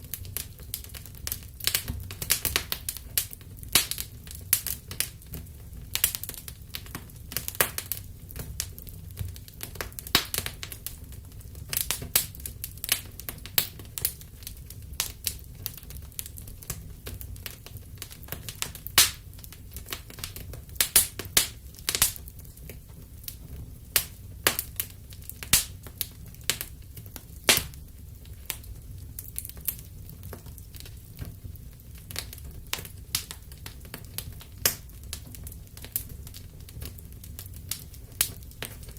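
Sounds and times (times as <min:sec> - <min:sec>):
fire crackling and popping: 0:00.0 - 0:38.9
low rumble of flames: 0:00.0 - 0:38.9.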